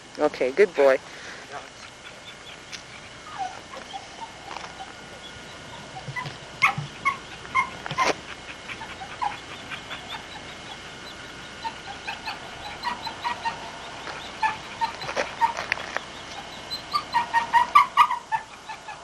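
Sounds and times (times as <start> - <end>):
dog whimpering: 1.8 - 19.0.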